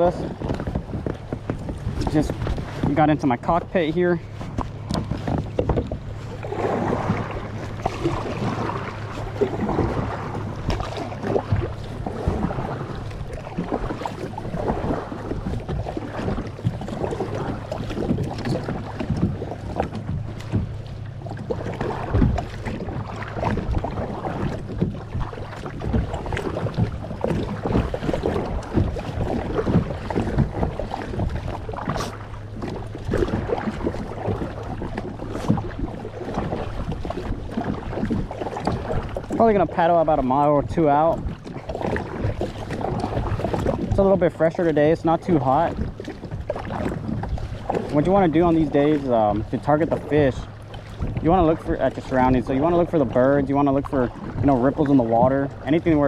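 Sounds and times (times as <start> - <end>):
paddle splashes: 0.0 - 56.0
water slapping a hull: 0.0 - 56.0
wind buffeting the microphone: 0.0 - 56.0.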